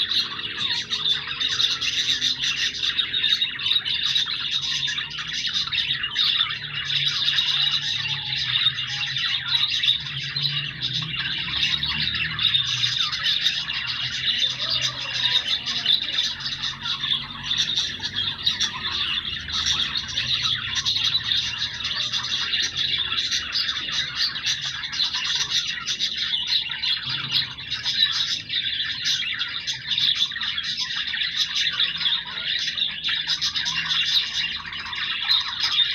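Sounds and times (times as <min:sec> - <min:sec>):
budgerigars chattering: 0:00.0 - 0:35.9.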